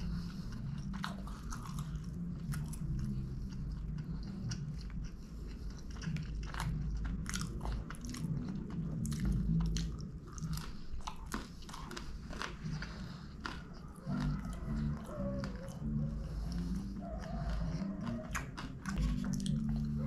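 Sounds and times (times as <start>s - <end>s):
wet mouth sounds: 0.0s - 20.0s
crispy crust crunching: 0.3s - 20.0s.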